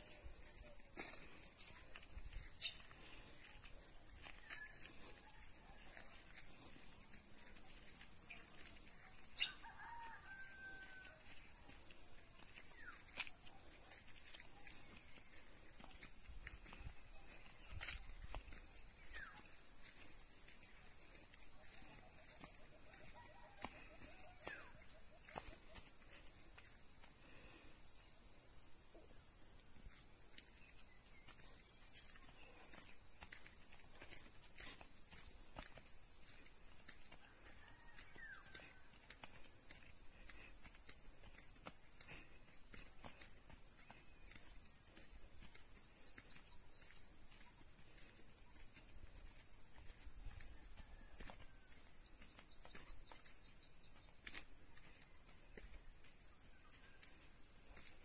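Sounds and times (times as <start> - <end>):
footsteps on dirt path: 0.0 - 58.0
high-pitched insect chorus: 0.0 - 58.0.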